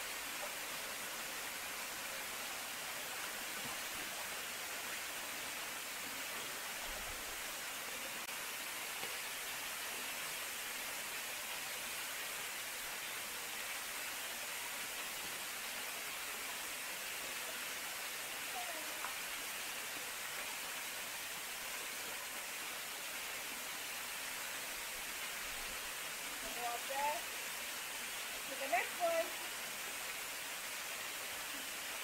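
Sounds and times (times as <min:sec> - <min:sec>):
running water: 0:00.0 - 0:32.0.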